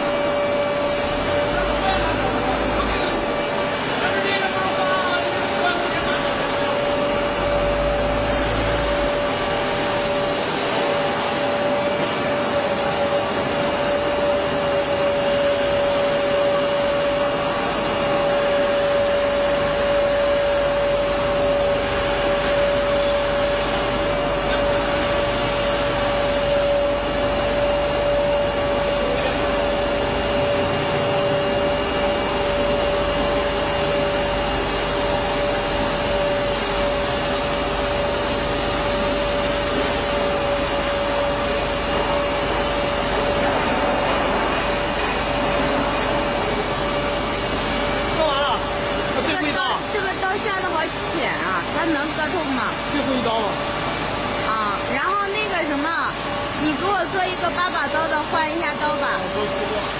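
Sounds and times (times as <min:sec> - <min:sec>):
wood router spindle whine: 0:00.0 - 0:59.9.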